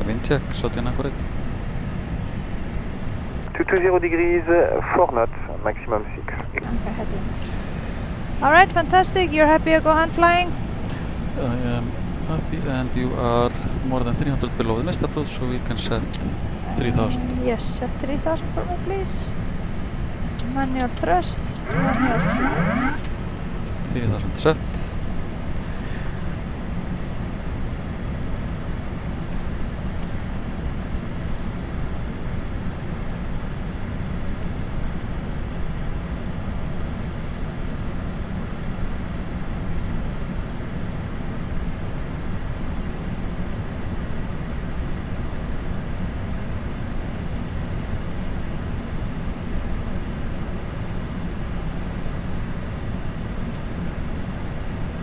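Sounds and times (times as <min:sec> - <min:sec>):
airflow and engine rumble: 0:00.0 - 0:55.0.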